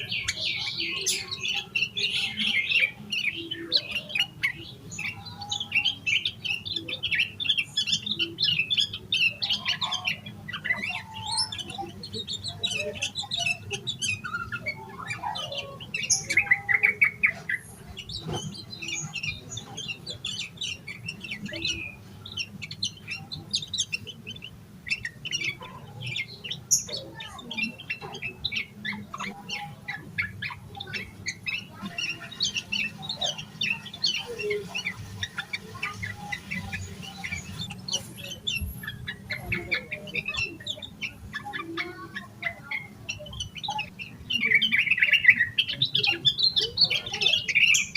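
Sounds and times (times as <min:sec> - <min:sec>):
bulbul singing: 0:00.0 - 0:47.9.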